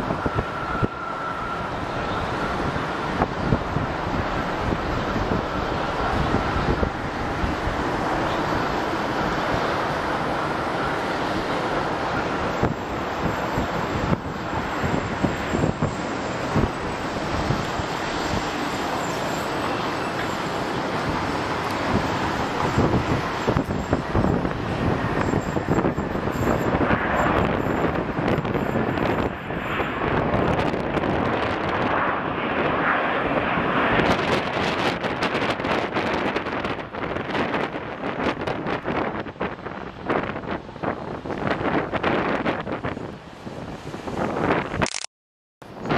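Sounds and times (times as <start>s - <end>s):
wind buffeting microphone: 0.0s - 44.9s, 45.6s - 45.9s
jet engine roar: 0.0s - 45.9s.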